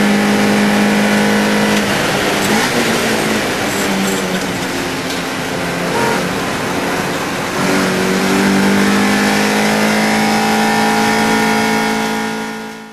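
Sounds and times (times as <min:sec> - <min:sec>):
race car engine accelerating: 0:00.0 - 0:12.9
road and wind noise: 0:00.0 - 0:12.9.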